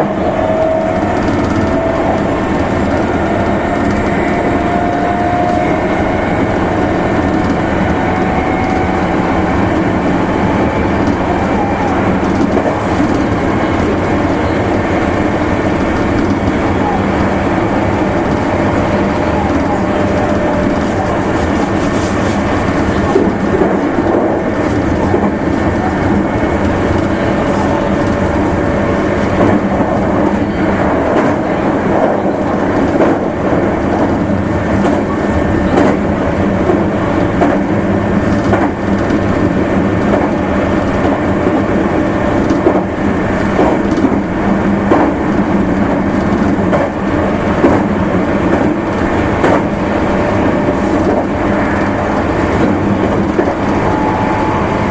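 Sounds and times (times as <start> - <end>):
train wheels rumbling on rail: 0.0 - 54.9
wheels clacking over rail joints: 0.0 - 54.9.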